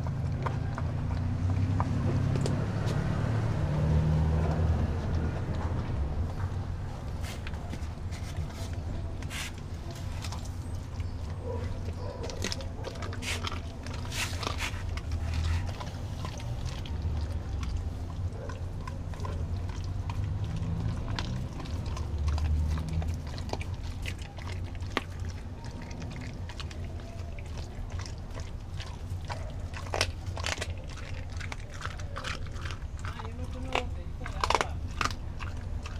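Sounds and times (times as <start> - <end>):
dog chewing meat: 0.0 - 35.9.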